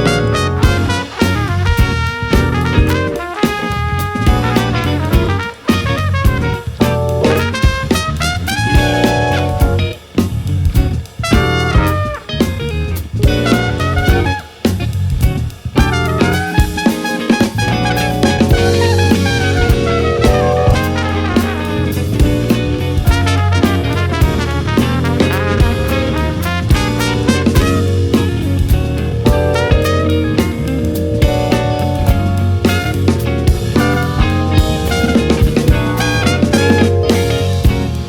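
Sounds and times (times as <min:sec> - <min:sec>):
bass: 0:00.0 - 0:38.0
drum kit: 0:00.0 - 0:38.0
horn lines: 0:00.0 - 0:38.0.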